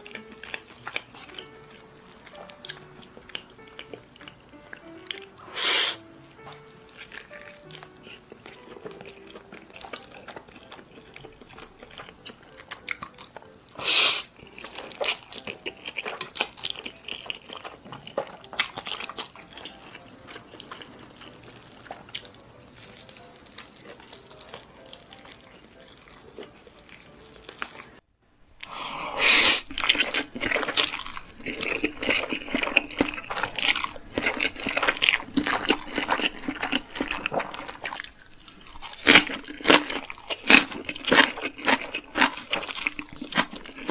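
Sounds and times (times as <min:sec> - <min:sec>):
food crunching: 0:00.0 - 0:28.0, 0:28.6 - 0:43.9
wet chewing and slurping noodles: 0:00.0 - 0:28.0, 0:28.6 - 0:43.9.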